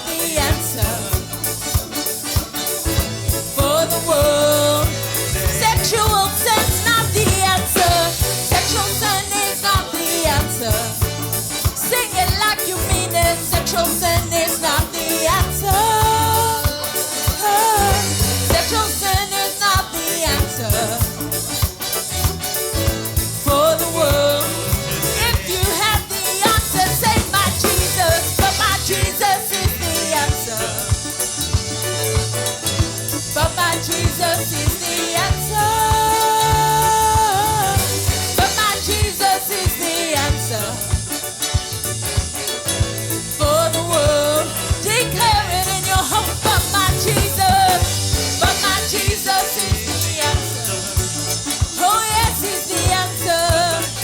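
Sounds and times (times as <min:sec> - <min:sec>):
live gospel band playing: 0:00.0 - 0:54.0.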